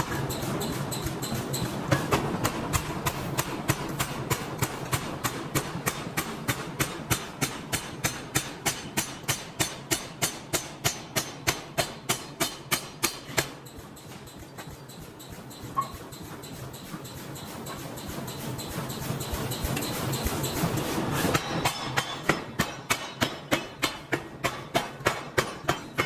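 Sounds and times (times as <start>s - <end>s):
factory hum: 0.0s - 26.0s
forging hammer striking metal: 0.0s - 26.0s.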